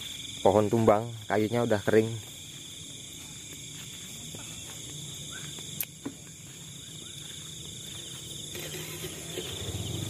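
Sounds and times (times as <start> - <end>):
crickets and insects chirping: 0.0 - 10.0.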